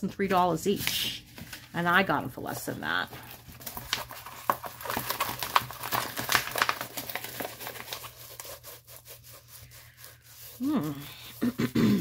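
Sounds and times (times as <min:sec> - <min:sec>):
plastic sheet crinkling: 0:00.7 - 0:11.4.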